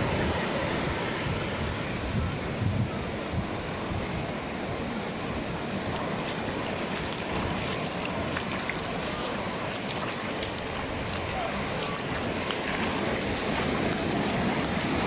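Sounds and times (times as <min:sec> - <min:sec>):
ocean surf on beach: 0:00.0 - 0:15.0.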